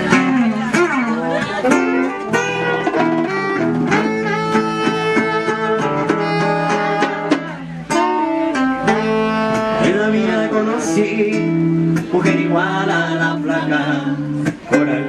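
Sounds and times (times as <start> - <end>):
acoustic band with plucked guitars: 0.0 - 15.0.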